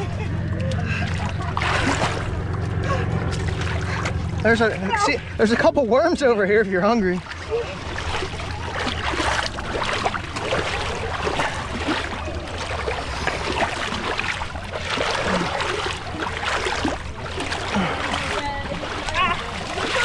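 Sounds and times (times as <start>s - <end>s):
person wading through muddy water: 0.0s - 20.0s
steady low rumble: 0.0s - 20.0s.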